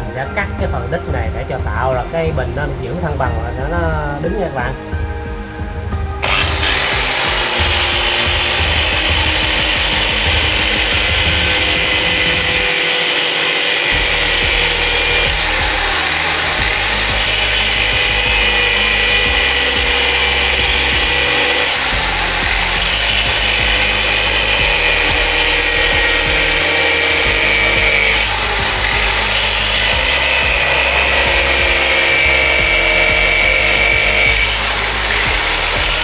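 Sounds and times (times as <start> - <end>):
drill cutting coconut shell: 6.2 - 36.0.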